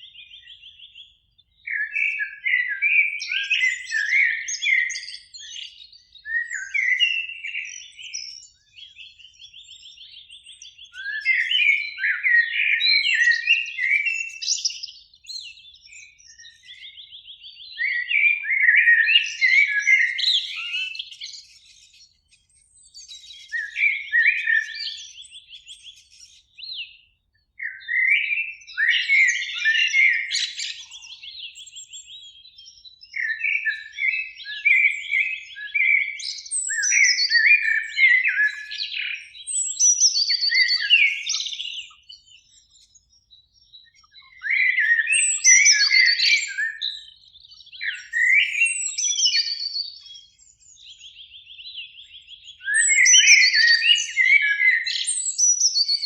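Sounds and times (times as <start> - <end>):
blackbird singing: 0.0 - 56.0.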